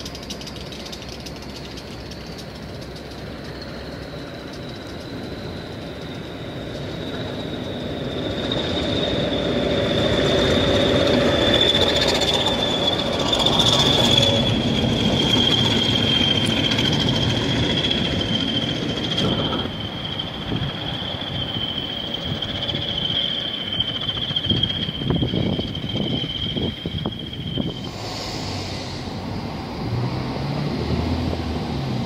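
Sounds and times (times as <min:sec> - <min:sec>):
high steady squeal: 0:00.0 - 0:30.0
diesel locomotive engines: 0:00.0 - 0:32.0
rail noise: 0:00.0 - 0:32.0.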